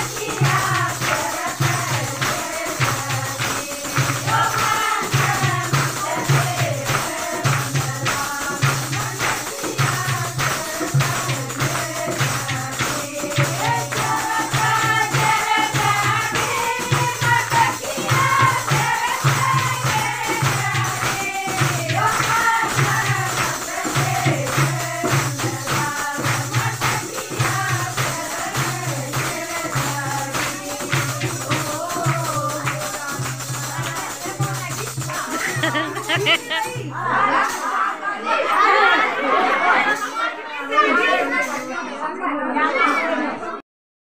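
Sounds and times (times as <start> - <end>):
hand clapping: 0.0 - 36.7
jingling tambourine: 0.0 - 37.8
women singing folk song: 0.0 - 39.8.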